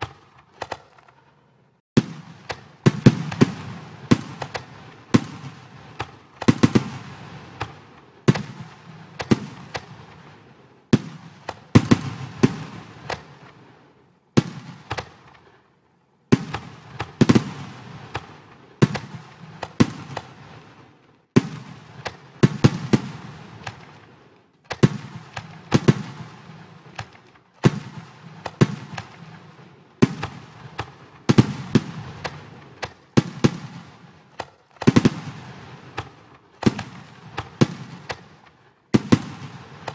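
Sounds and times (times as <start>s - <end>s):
simulated fireworks bangs and crackle: 0.0s - 39.9s.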